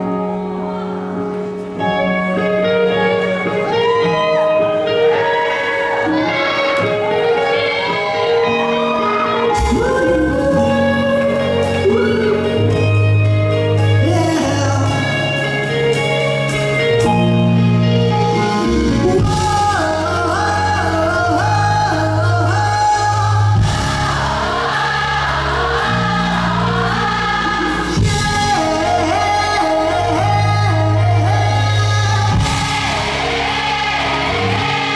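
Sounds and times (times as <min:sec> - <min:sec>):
live band playing with singing: 0:00.0 - 0:34.9.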